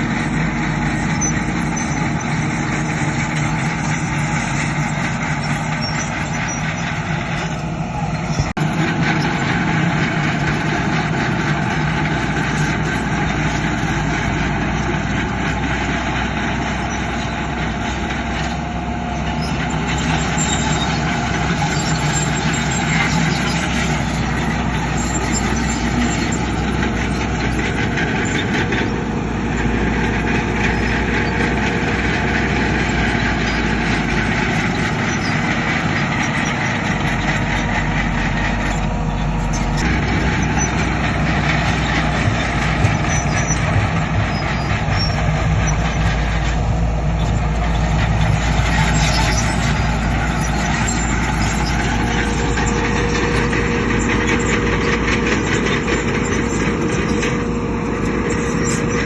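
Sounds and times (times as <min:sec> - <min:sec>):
heavy diesel machinery engine din: 0:00.0 - 0:59.0.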